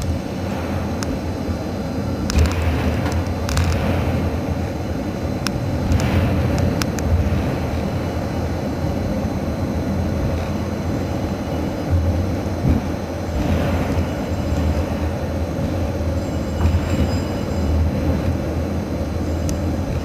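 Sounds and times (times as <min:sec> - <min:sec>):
train cars rolling rumble: 0:00.0 - 0:20.0.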